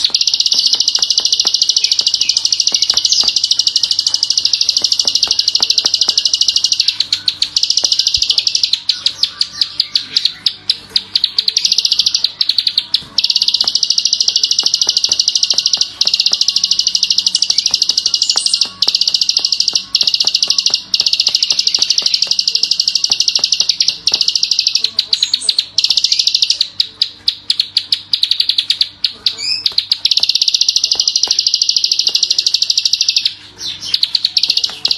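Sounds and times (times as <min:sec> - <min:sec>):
songbird clicking trill: 0:00.0 - 0:33.3.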